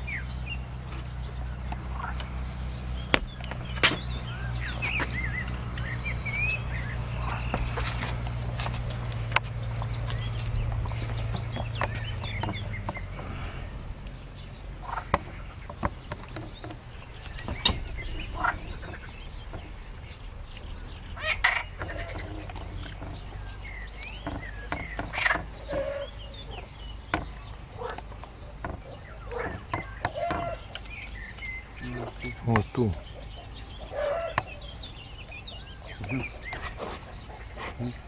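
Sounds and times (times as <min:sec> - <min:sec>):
animal and bird calls: 0:00.0 - 0:38.0
low steady hum: 0:00.0 - 0:38.0.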